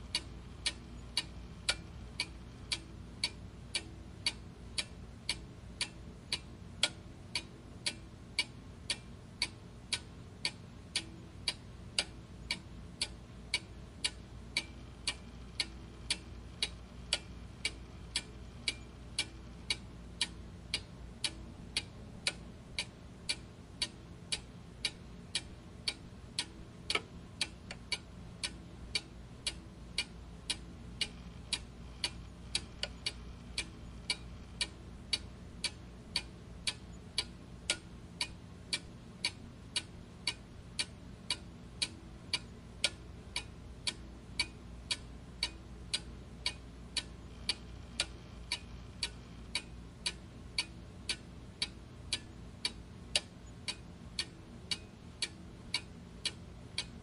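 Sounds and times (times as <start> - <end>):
mechanical clock ticking: 0.0 - 57.0.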